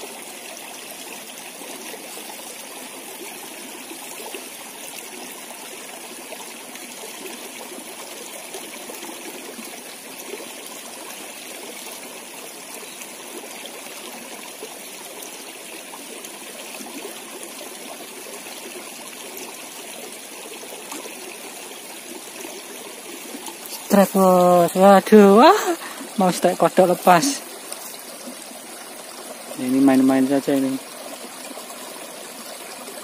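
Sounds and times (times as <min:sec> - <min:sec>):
stream trickling over rocks: 0:00.0 - 0:33.0.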